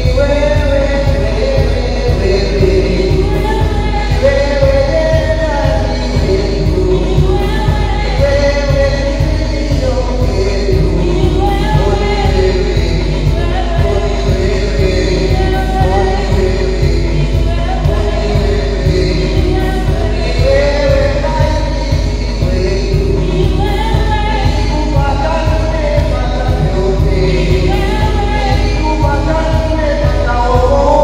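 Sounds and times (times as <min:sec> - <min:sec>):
band with quick steady beat: 0:00.0 - 0:31.0
people singing worship song: 0:00.0 - 0:31.0.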